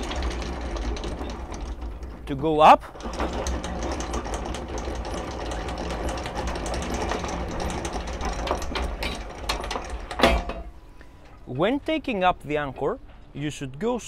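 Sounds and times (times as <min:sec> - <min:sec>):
anchor windlass motor running: 0:00.0 - 0:11.9.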